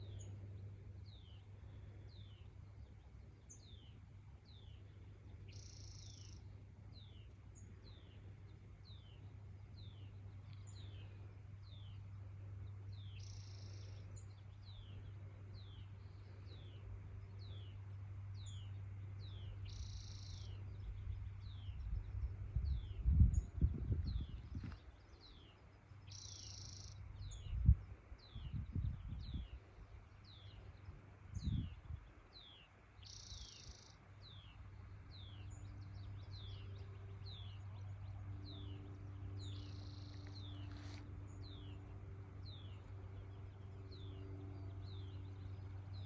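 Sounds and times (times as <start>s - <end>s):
bird chirping: 0.0s - 46.0s
steady low hum: 0.0s - 46.0s.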